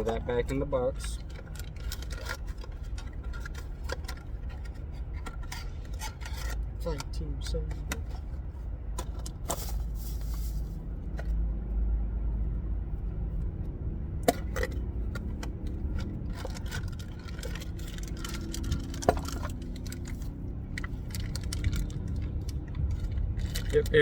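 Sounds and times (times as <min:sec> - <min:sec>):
metal car parts rummaged: 0:00.0 - 0:11.3, 0:14.3 - 0:24.0.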